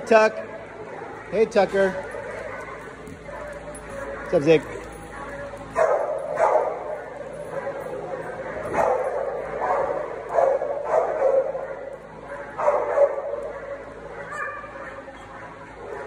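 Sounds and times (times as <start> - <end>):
large dogs barking: 0.0 - 16.0.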